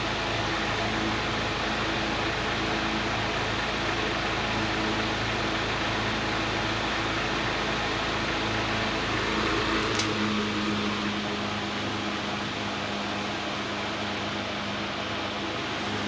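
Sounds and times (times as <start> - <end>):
box fan whirring: 0.0 - 16.0
fan rumbling against floor: 0.0 - 16.0.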